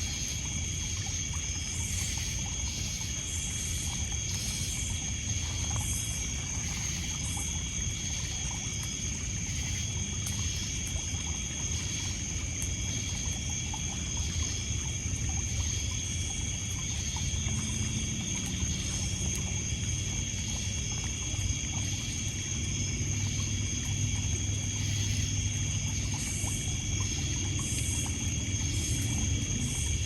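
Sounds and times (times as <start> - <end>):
insects chirping chorus: 0.0 - 30.0
water lapping on pebbles: 0.0 - 30.0.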